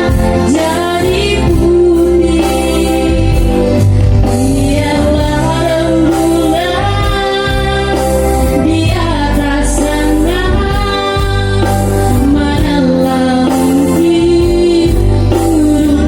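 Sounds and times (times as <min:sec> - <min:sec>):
instrumental accompaniment with bass: 0:00.0 - 0:16.0
person singing with vibrato: 0:00.0 - 0:16.0.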